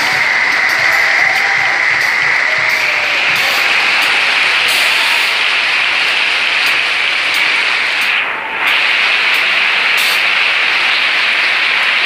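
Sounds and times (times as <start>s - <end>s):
large crowd applauding: 0.0s - 12.0s.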